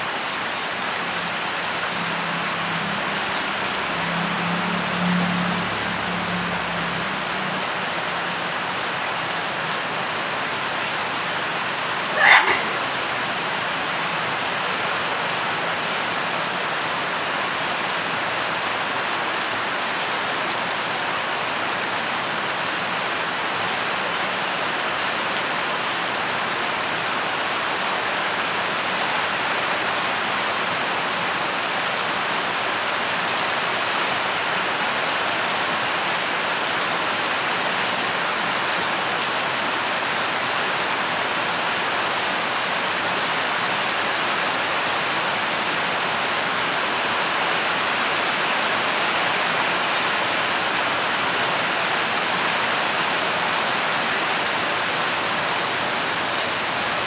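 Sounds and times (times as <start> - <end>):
heavy rain on floodwater: 0.0 - 57.0.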